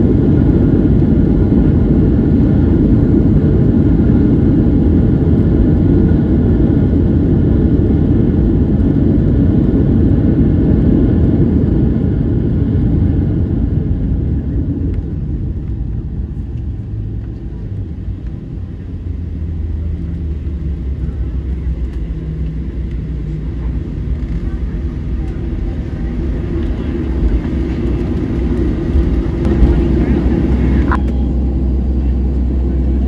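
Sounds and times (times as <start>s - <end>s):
aircraft cabin rumble: 0.0s - 33.0s
low engine drone: 0.0s - 33.0s.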